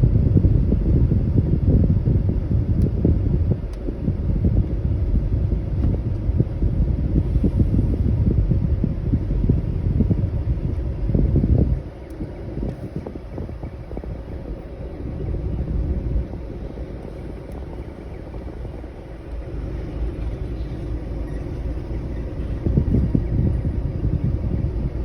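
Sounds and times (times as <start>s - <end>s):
air-conditioner airflow on microphone: 0.0s - 25.0s.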